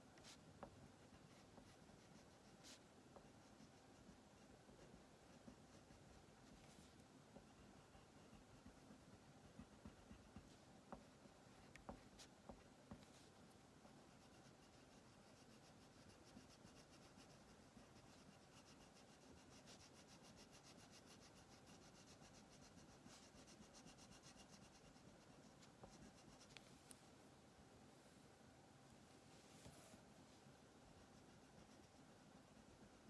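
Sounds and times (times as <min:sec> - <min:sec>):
crayon scratching on paper: 0:00.2 - 0:26.6, 0:30.9 - 0:33.0.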